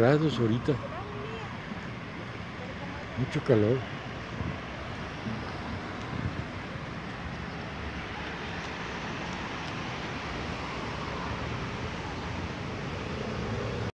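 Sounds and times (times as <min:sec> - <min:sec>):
wind buffeting microphone: 0:00.0 - 0:13.9
street traffic noise: 0:00.0 - 0:14.0.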